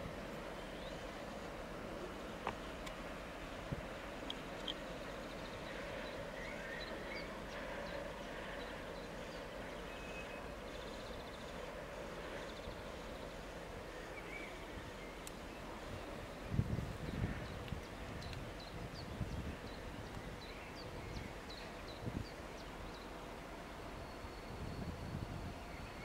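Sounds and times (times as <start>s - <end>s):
diesel locomotives humming: 0.0s - 26.0s.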